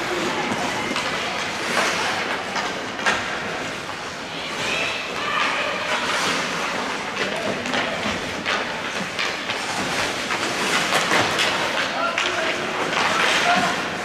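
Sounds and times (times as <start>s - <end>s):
hockey sticks and puck clacking: 0.0s - 14.0s
skates scraping on ice: 0.0s - 14.0s.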